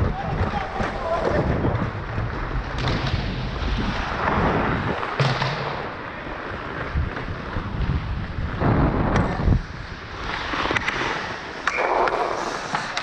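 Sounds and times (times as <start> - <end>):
skate blades scraping ice: 0.0 - 13.0.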